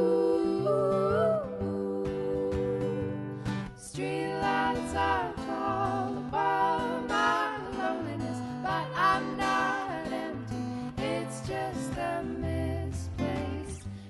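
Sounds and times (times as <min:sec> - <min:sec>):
voices singing in harmony: 0:00.0 - 0:14.0.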